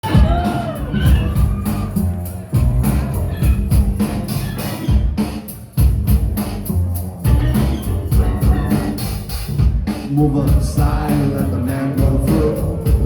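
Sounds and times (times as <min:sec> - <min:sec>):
heavy low bass line: 0:00.0 - 0:05.2, 0:05.8 - 0:13.0
drum kit beat: 0:00.0 - 0:13.0.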